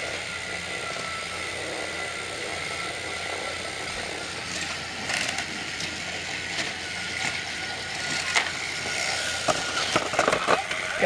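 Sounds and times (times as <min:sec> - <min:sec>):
toy train motor whirring: 0:00.0 - 0:11.0.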